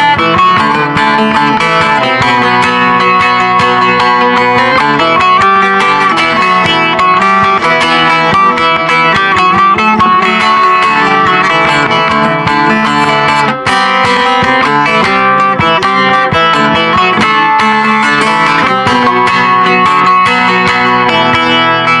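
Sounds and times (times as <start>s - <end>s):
plucked lute folk melody: 0.0s - 22.0s.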